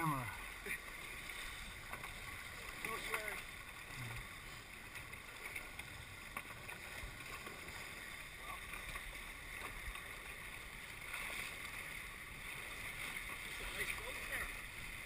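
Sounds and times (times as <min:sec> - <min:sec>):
water rushing along hulls: 0:00.0 - 0:15.0.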